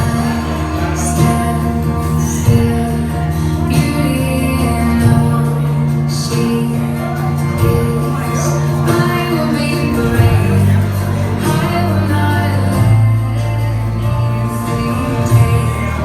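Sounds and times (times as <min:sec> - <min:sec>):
loud music with singing: 0:00.0 - 0:16.0
sustained bass line: 0:00.0 - 0:16.0.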